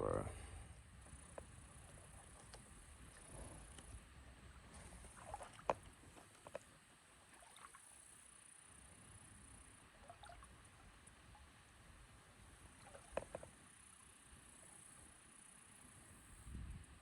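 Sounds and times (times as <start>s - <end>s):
faint steady high hiss: 0.0s - 17.0s.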